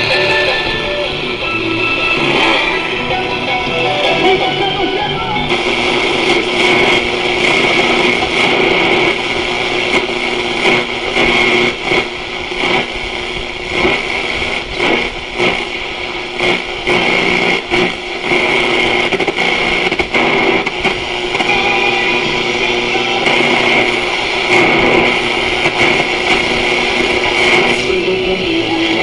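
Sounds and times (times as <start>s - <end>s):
whistling interference tone: 0.0s - 12.9s, 14.8s - 29.0s
radio crackles: 0.0s - 29.0s
radio static and hiss: 0.0s - 29.0s.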